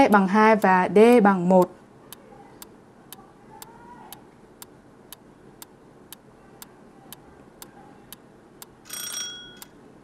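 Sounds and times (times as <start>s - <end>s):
clock ticking: 0.0s - 8.8s.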